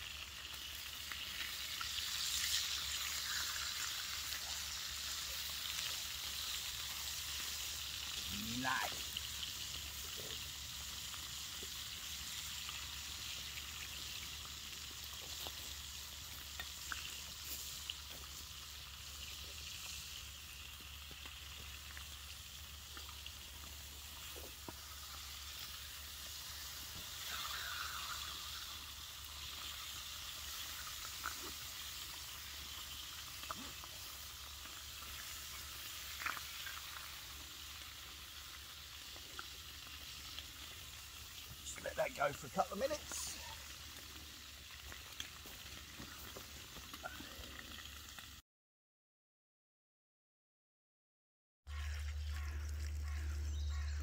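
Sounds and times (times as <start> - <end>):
bacon sizzling in a pan: 0.0 - 48.4, 51.7 - 54.0.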